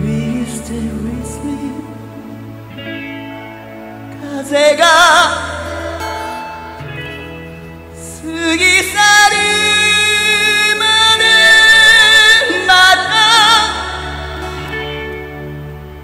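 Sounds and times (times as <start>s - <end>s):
slow ballad music: 0.0s - 16.0s.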